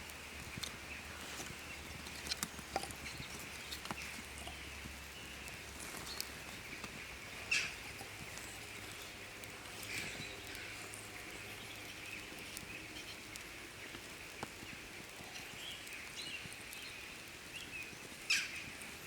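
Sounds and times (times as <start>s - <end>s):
campfire crackling and popping: 0.0s - 19.0s
steady high hiss: 0.0s - 19.0s.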